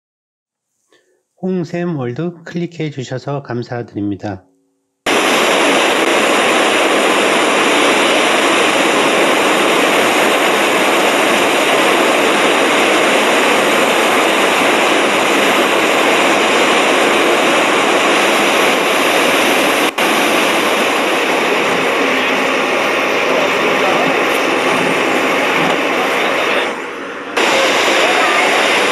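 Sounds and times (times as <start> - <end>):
waterfall rushing: 5.1 - 28.9.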